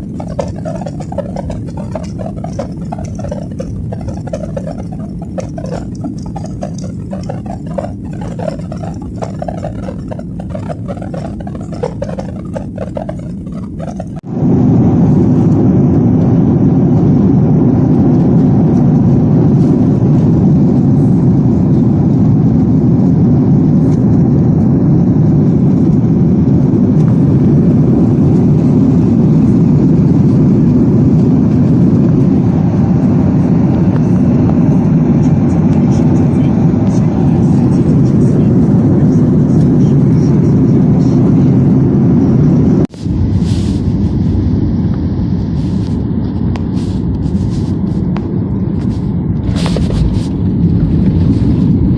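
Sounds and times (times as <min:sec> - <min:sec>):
jet engine cabin rush: 0:00.0 - 0:51.9.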